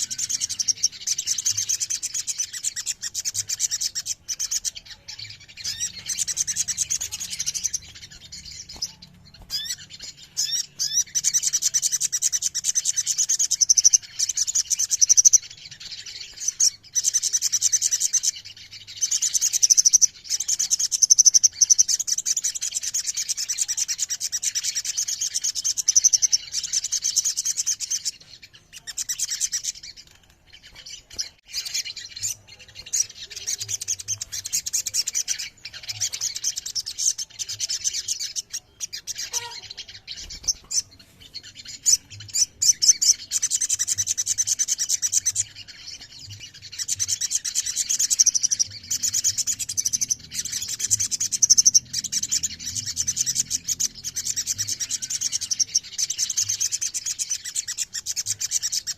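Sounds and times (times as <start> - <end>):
birds chirping and trilling: 0.0 - 58.9.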